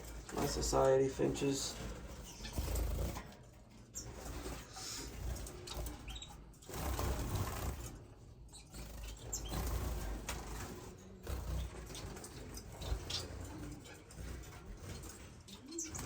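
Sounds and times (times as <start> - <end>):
finches fluttering wings: 0.0 - 16.0.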